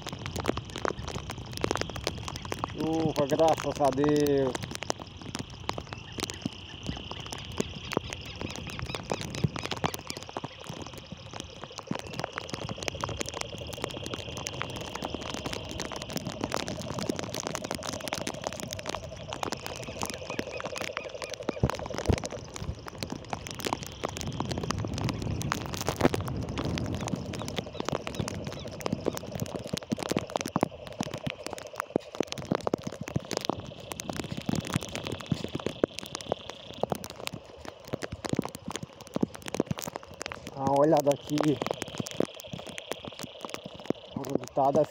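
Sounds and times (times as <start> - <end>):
frog trilling: 0.0 - 44.9
steady rain: 0.0 - 44.9.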